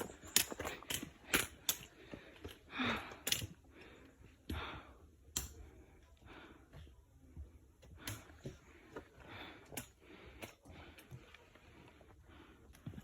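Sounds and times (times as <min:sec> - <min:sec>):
person breathing softly: 0:01.3 - 0:13.0.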